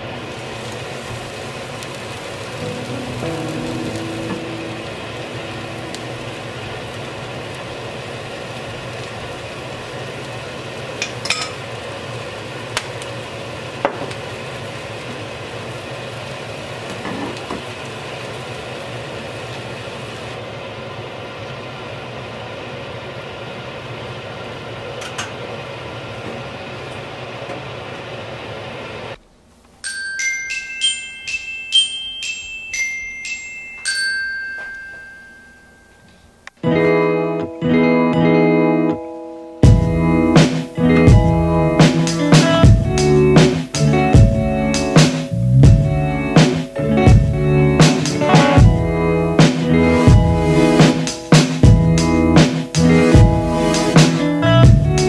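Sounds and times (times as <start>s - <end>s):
vegetables sizzling in a pot: 0.0s - 29.2s, 39.7s - 55.0s.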